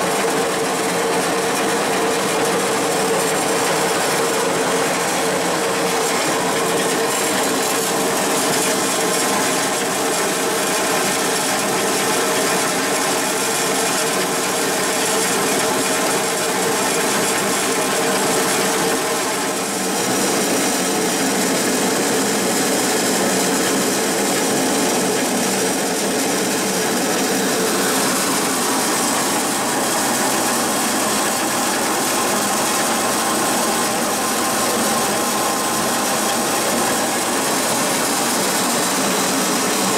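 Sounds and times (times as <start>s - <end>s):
crushed grain pouring: 0.0s - 39.9s
grain roller mill running: 0.0s - 39.9s.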